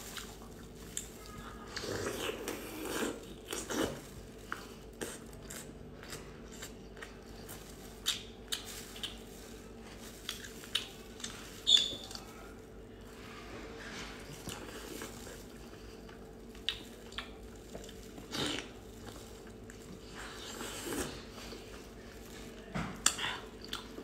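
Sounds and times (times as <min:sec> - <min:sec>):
chewing octopus: 0:00.0 - 0:24.0.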